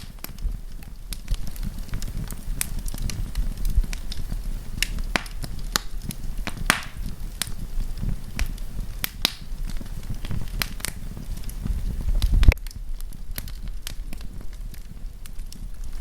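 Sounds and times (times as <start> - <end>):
campfire crackling and popping: 0.0 - 16.0
low rumble of flames: 0.0 - 16.0.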